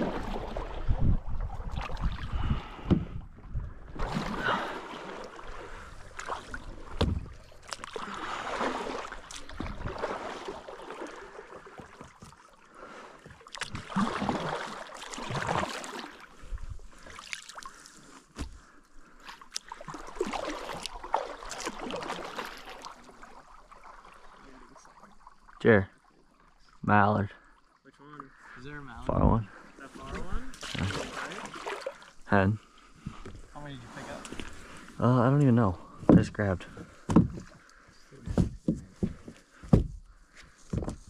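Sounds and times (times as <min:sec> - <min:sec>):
kayak paddle splashing water: 0:00.0 - 0:26.8, 0:27.4 - 0:41.0.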